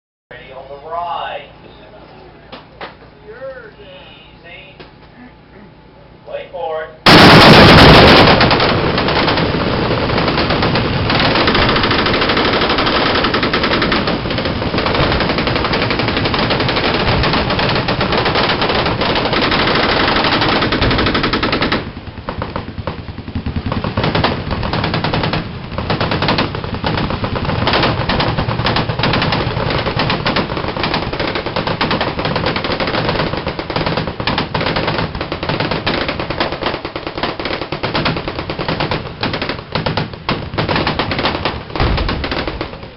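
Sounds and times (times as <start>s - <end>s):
automatic machine gun fire: 7.0s - 42.9s.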